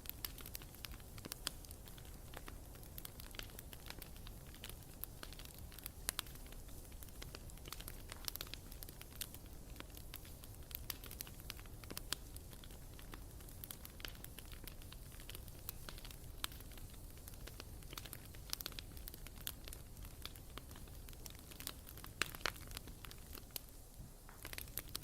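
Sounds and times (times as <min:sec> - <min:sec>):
flames rumbling: 0:00.0 - 0:25.0
wood crackling and popping: 0:00.0 - 0:25.0.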